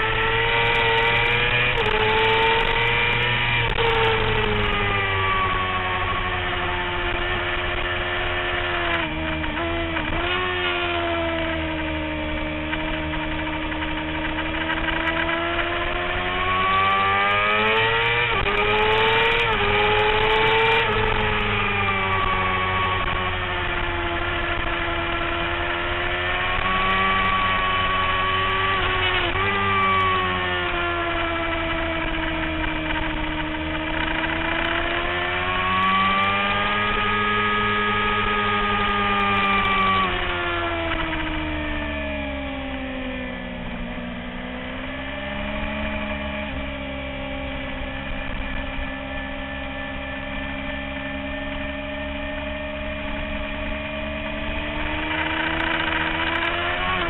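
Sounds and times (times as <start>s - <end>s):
motorcycle engine revving hard: 0.0s - 57.0s
quick gear changes: 0.1s - 57.0s.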